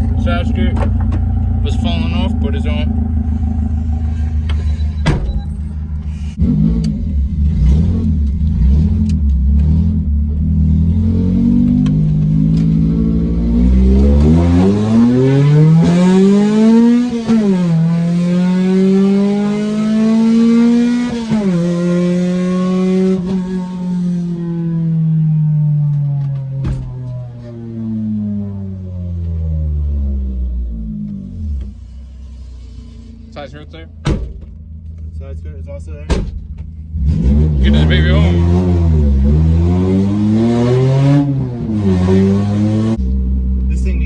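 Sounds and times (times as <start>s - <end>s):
loud engine accelerating: 0.0s - 33.8s, 36.9s - 44.0s.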